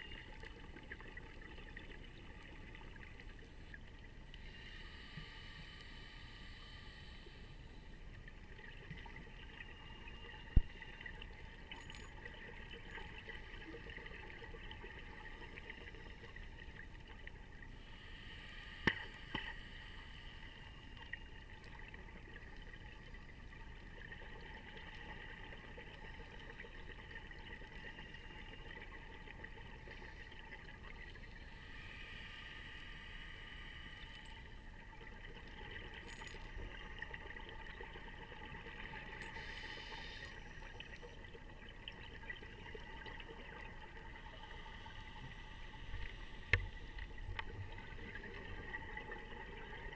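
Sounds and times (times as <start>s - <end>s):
faint underwater hiss: 0.0s - 49.9s.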